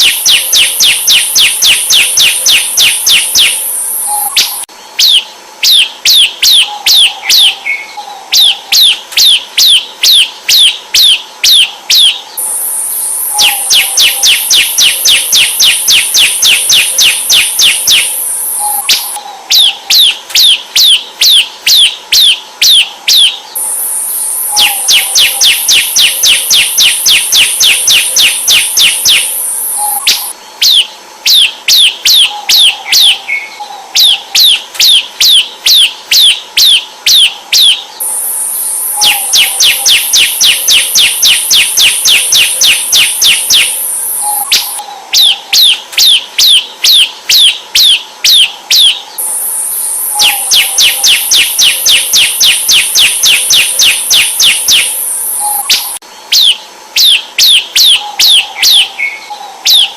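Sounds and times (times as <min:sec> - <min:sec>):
bird calling sharp notes: 0:00.0 - 0:59.9
steady high buzz: 0:00.0 - 0:59.9.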